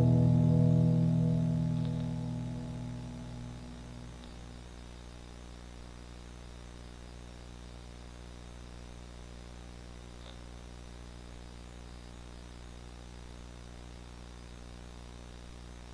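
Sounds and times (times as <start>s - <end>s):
electrical hum and tape hiss: 0.0s - 15.9s.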